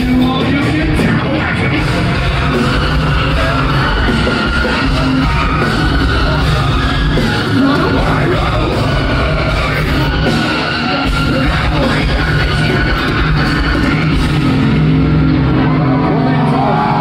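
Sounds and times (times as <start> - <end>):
heavy rock band playing: 0.0 - 17.0
yelled vocals: 0.0 - 17.0.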